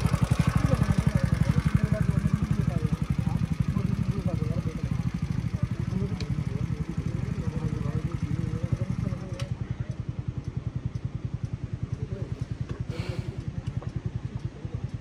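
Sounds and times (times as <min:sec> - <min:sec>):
faint voices: 0:00.0 - 0:15.0
motorcycle engine running: 0:00.0 - 0:15.0.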